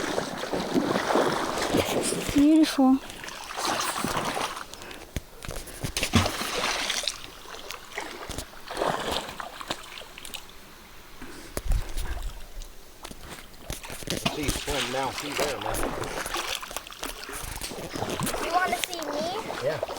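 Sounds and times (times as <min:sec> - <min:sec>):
water splashing and sloshing: 0:00.0 - 0:19.9.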